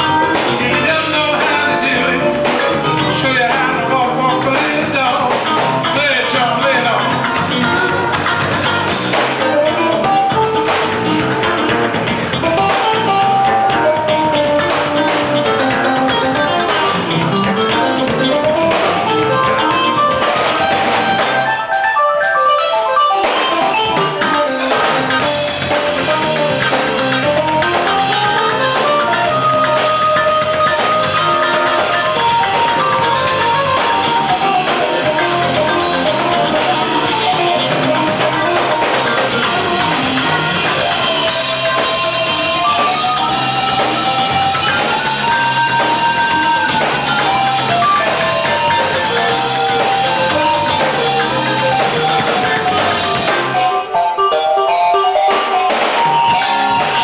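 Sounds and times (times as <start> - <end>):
bass guitar: 0.0 - 57.0
drum kit: 0.0 - 57.0
lead guitar soloing: 0.0 - 57.0.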